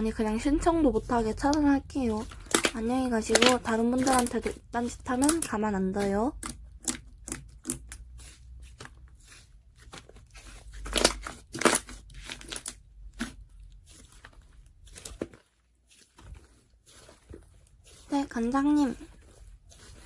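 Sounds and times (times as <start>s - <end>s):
crinkly crunching rustles: 0.0s - 20.0s.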